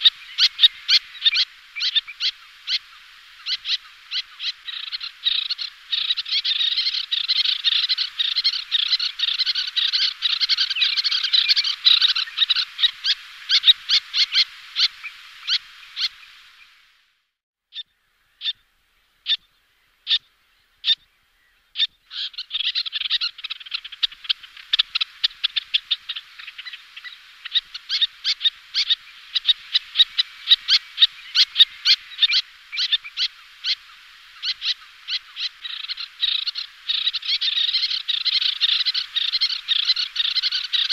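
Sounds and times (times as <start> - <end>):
terns calling: 0.0 - 17.0, 17.7 - 40.9.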